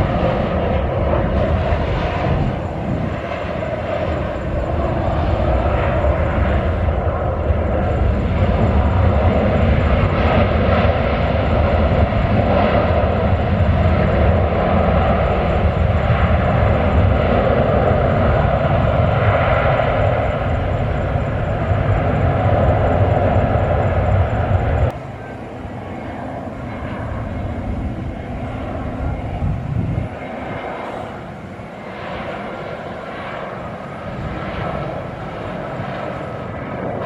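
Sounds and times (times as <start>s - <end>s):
airliner engines roaring: 0.0s - 37.0s.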